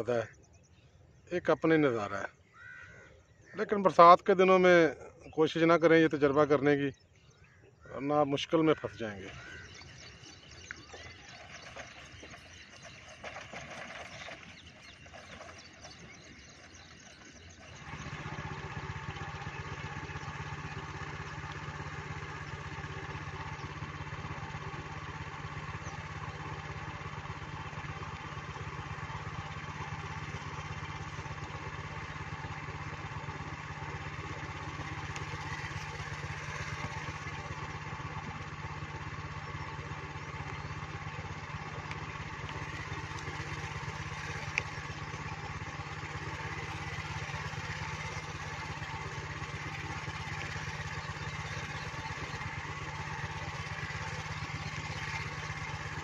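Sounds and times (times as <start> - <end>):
small engine humming: 0.0 - 56.0.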